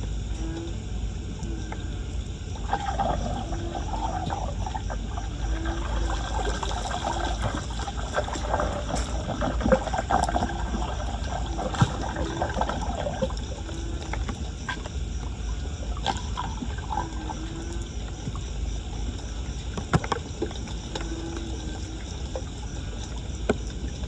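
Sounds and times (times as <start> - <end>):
floodwater trickling and splashing: 0.0 - 24.0.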